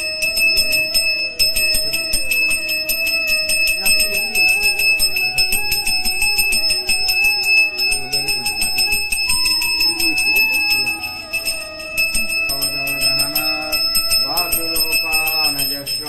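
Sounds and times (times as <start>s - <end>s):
hand bell ringing rapidly: 0.0s - 16.0s
person chanting: 0.0s - 16.0s.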